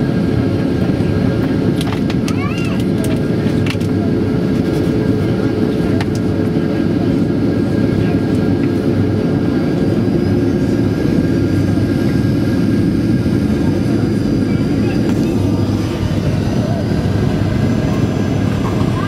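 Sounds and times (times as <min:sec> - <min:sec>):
airplane cabin roar: 0:00.0 - 0:19.0.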